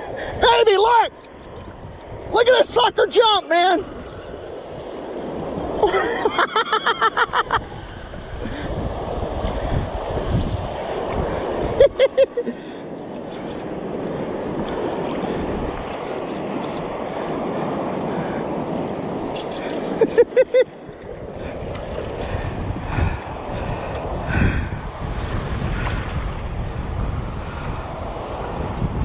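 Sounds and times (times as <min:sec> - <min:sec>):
surf washing: 0:00.0 - 0:29.0
wind buffeting microphone: 0:00.0 - 0:29.0.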